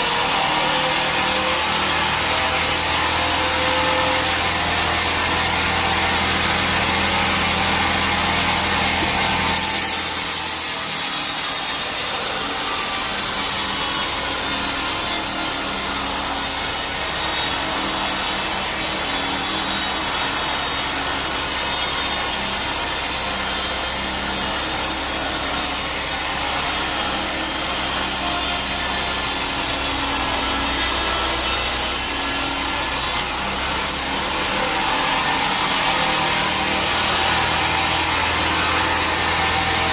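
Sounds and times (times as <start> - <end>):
band saw running: 0.0 - 39.9
saw blade rasping through log: 0.0 - 39.9.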